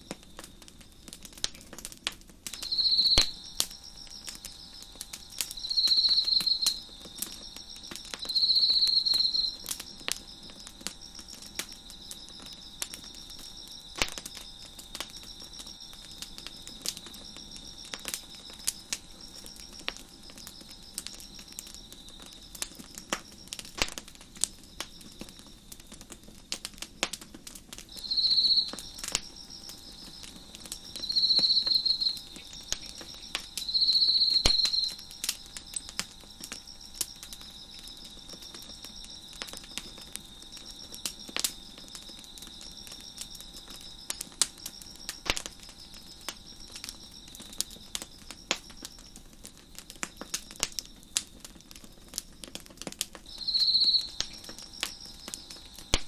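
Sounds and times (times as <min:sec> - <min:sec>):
crickets chirping: 0:00.0 - 0:56.0
wood fire crackling and popping: 0:00.0 - 0:56.0.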